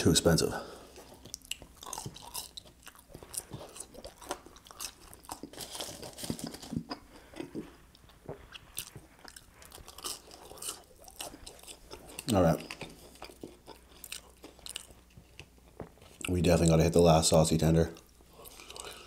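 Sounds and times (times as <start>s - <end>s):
person chewing fries: 0.8s - 16.4s, 18.0s - 19.0s.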